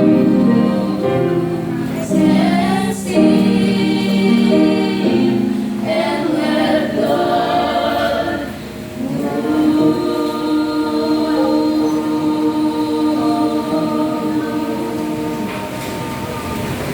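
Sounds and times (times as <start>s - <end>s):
choir singing: 0.0s - 16.9s.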